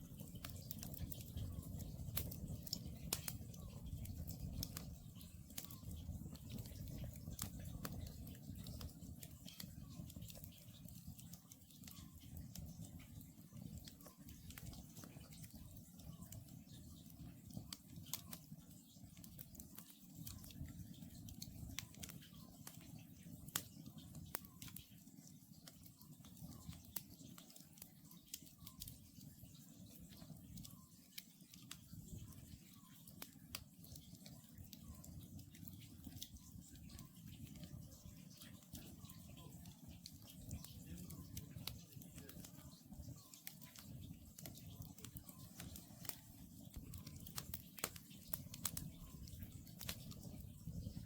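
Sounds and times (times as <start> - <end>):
campfire crackling and popping: 0.0 - 51.0.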